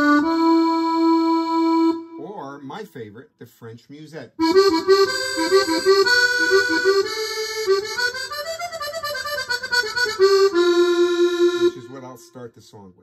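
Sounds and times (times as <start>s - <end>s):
accordion melody on digital piano: 0.0s - 2.4s, 4.4s - 12.5s.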